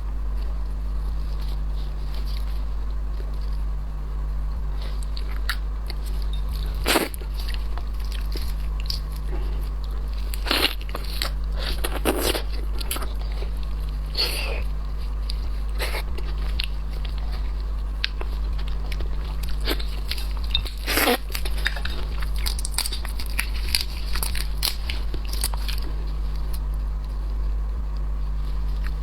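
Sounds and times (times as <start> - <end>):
low electrical hum: 0.0 - 29.0
crunching shrimp shells: 0.3 - 29.0.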